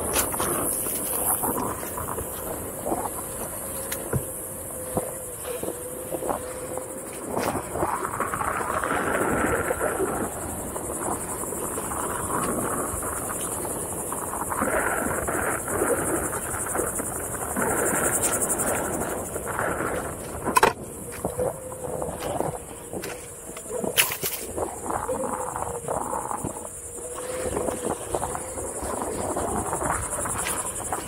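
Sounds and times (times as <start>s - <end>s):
electric board rolling on dirt: 0.0s - 31.0s
high insect buzz: 0.0s - 31.0s.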